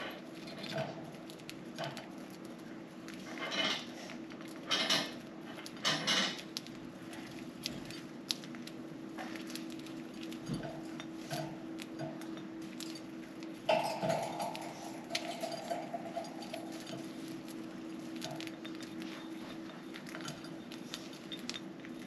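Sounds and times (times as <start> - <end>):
birds cracking seeds: 0.0 - 22.0.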